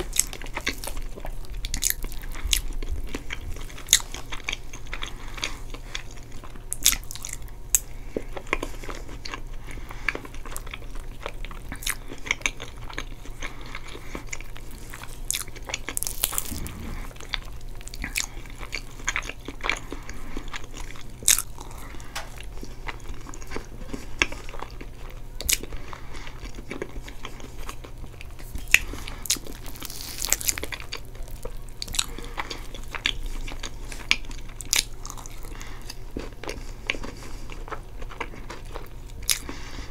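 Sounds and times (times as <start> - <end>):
chewing and mouth sounds: 0.0 - 39.9.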